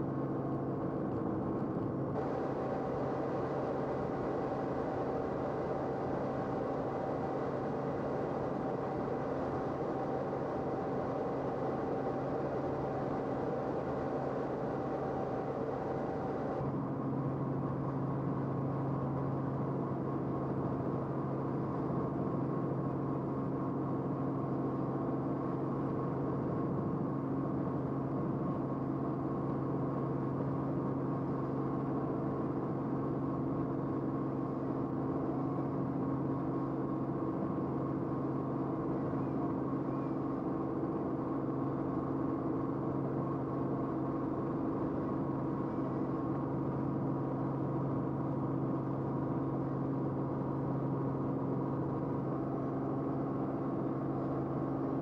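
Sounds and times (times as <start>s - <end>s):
aircraft engine drone in cabin: 0.0s - 55.0s.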